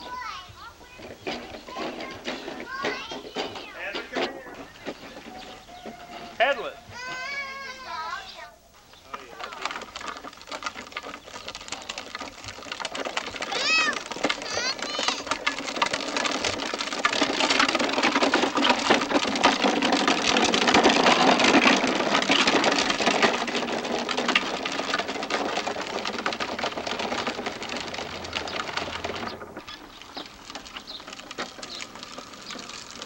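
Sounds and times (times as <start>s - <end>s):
plastic wheels rattling on dirt: 0.0s - 33.0s.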